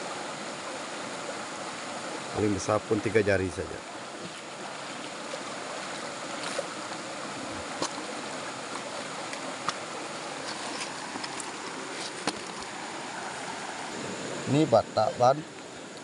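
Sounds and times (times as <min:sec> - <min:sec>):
stream running over rocks: 0:00.0 - 0:16.0.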